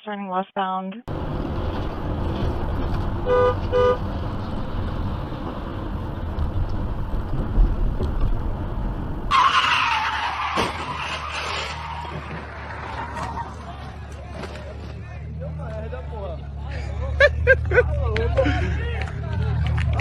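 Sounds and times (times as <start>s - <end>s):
car tyres screeching: 1.1s - 17.5s
low vehicle and road rumble: 1.1s - 20.0s.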